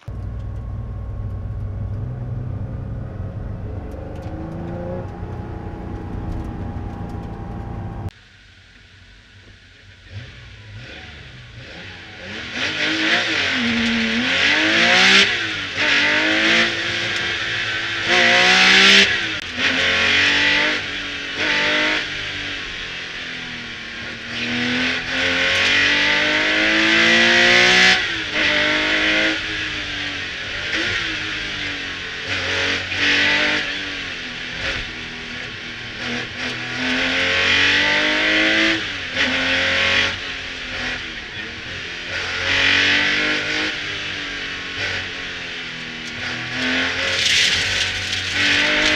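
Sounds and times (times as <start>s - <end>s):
car engine revving through gears: 0.0s - 8.1s, 10.1s - 48.9s.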